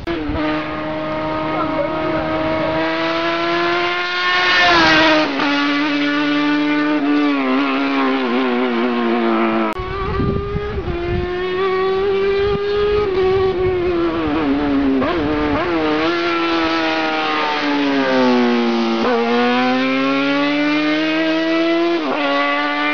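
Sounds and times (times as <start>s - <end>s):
rally car engine revving: 0.0s - 22.9s.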